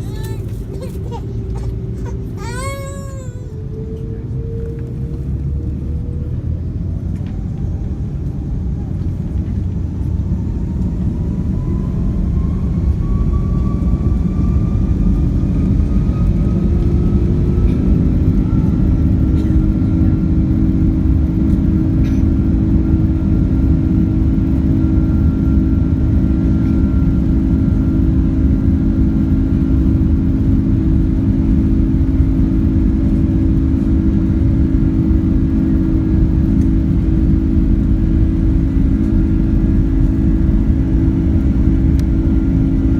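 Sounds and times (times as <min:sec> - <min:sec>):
jet engine whine: 0:00.0 - 0:42.9.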